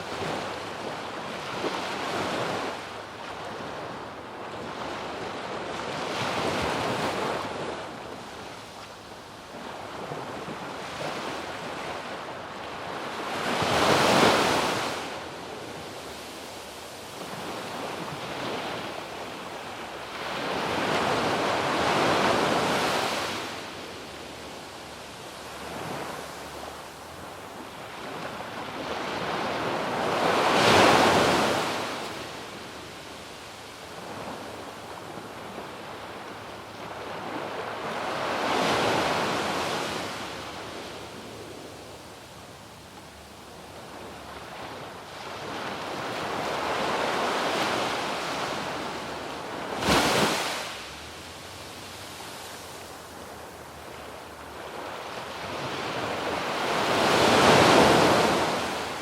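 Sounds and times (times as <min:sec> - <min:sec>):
waves breaking on beach: 0:00.0 - 0:08.7, 0:09.5 - 0:42.1, 0:43.3 - 0:59.0.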